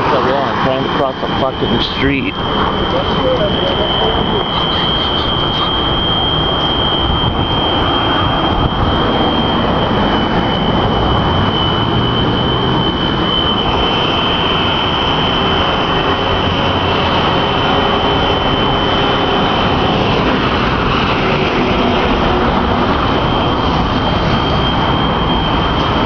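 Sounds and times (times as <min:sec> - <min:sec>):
high electronic alarm tone: 0:00.0 - 0:26.0
loud rushing roar: 0:00.0 - 0:26.0.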